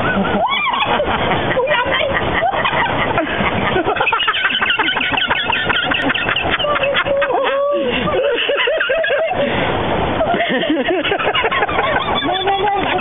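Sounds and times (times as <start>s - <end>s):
women shrieking and laughing: 0.0s - 13.0s.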